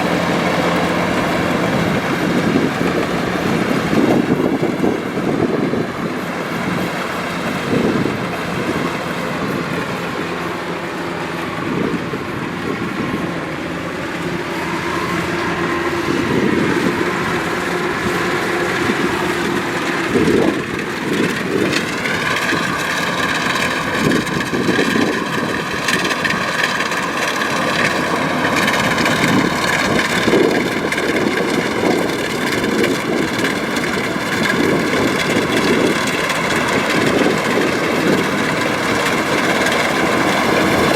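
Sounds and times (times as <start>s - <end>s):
combine harvester rumbling: 0.0s - 40.9s
steady high whine: 0.0s - 40.9s.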